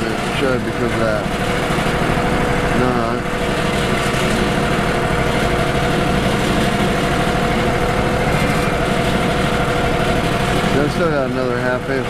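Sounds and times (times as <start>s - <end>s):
sawmill engine droning: 0.0s - 12.0s.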